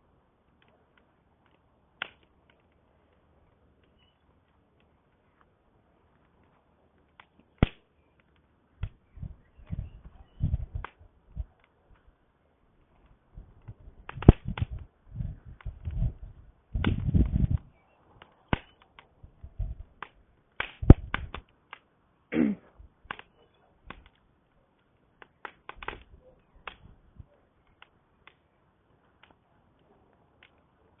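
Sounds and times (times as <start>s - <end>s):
campfire crackling: 0.0s - 31.0s
sharp pops from fire: 0.4s - 12.2s, 12.8s - 31.0s.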